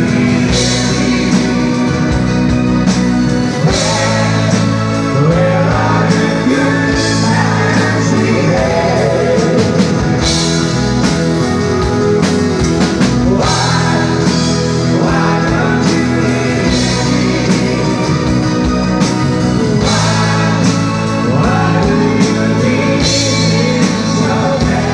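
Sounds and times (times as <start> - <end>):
man singing lead: 0.0 - 2.6, 3.4 - 10.4, 13.1 - 24.9
rock band playing: 0.0 - 24.9.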